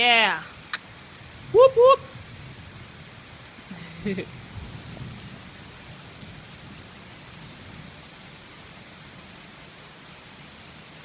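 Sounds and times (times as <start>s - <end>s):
heavy rain falling: 0.0s - 11.0s
raindrops pattering: 0.0s - 11.0s.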